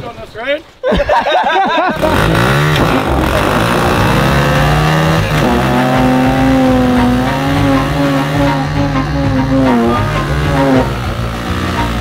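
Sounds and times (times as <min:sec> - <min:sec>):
small motorbike engine revving: 0:02.0 - 0:12.0.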